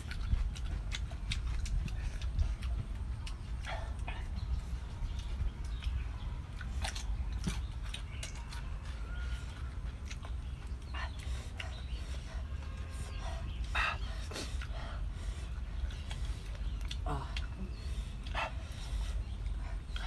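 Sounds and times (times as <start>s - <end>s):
people chewing and lip-smacking: 0.0s - 20.0s.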